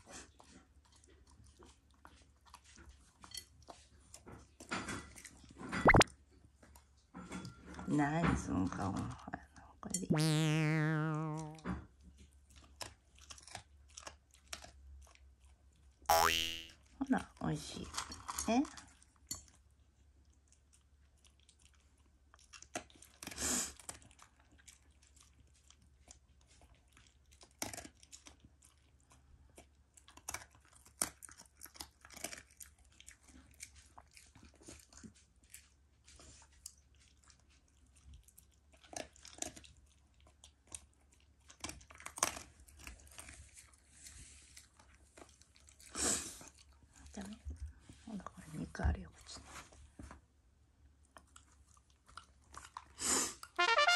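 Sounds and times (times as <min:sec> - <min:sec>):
dog chewing and crunching food: 0:00.0 - 0:05.6, 0:12.2 - 0:16.0, 0:17.6 - 0:48.0, 0:49.4 - 0:53.4.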